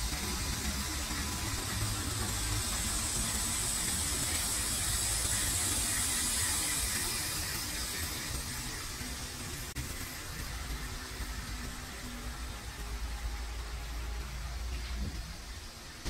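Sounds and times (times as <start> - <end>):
boring machine cutting steel: 0.0 - 16.0.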